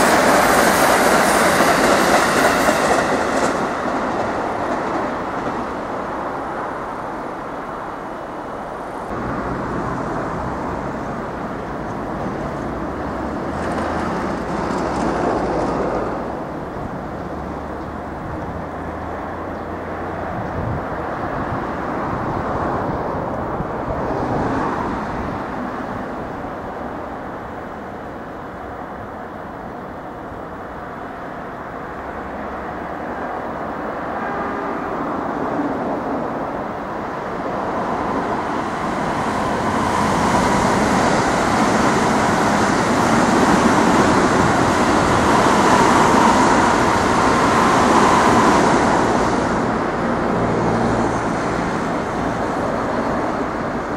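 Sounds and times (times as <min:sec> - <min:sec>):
train wheels rumbling on rails: 0:00.0 - 0:28.9, 0:29.5 - 0:53.9
high hiss of passing train: 0:00.0 - 0:53.9.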